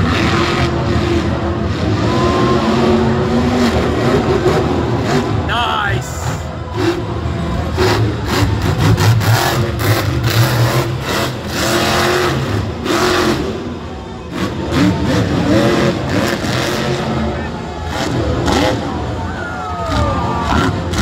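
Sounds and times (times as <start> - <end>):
truck engine revving hard: 0.0 - 21.0.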